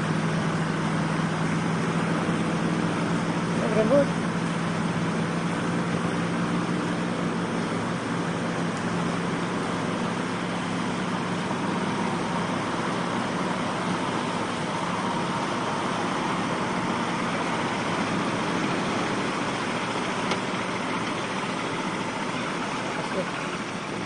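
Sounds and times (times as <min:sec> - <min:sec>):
truck engine running under load: 0:00.0 - 0:24.0.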